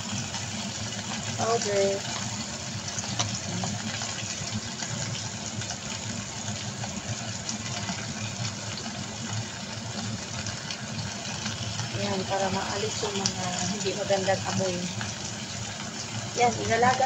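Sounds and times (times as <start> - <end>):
chicken sizzling in a pot: 0.0 - 17.0.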